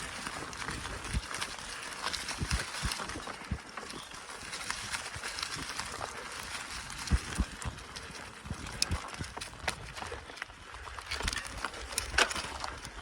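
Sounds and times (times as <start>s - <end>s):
bicycle clicks and rattles: 0.0s - 13.0s
bicycle tyres rolling on gravel: 0.0s - 13.0s.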